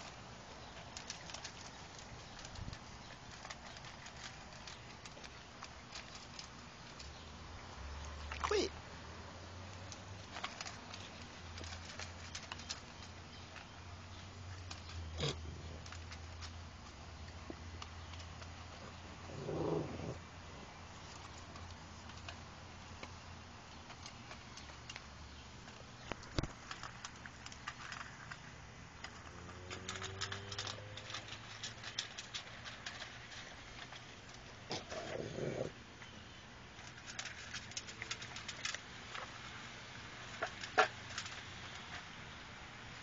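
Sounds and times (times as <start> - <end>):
dog crunching dry food: 0.0 - 8.7, 9.6 - 35.8, 36.7 - 42.1.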